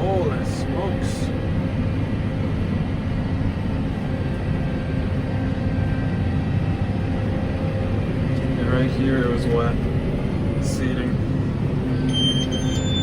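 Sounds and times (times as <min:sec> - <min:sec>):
crop sprayer engine droning: 0:00.0 - 0:13.0.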